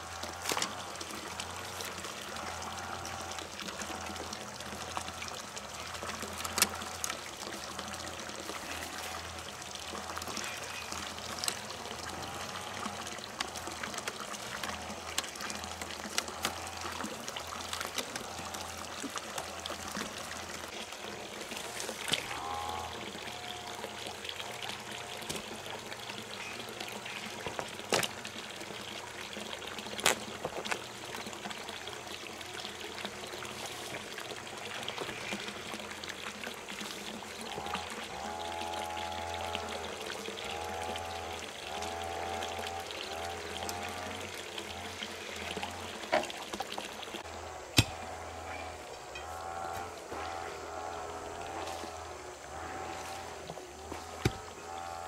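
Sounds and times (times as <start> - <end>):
water pouring and trickling: 0.0 - 55.0.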